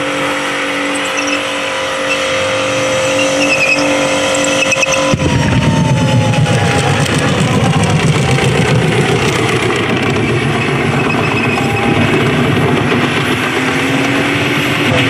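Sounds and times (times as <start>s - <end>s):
car engine at high revs: 0.0s - 15.0s
tyres spinning: 2.1s - 15.0s.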